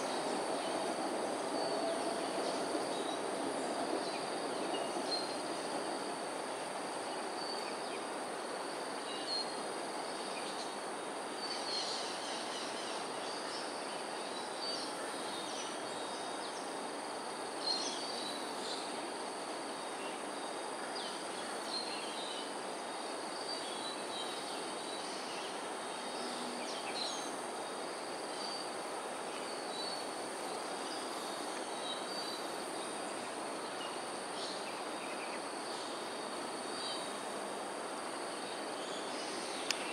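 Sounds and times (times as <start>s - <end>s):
background hiss: 0.0s - 39.9s
high insect drone: 0.0s - 39.9s.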